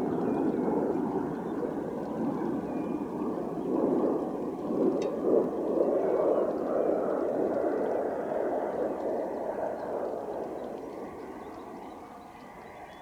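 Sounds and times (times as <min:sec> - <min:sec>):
distant jet engine rumble: 0:00.0 - 0:13.0.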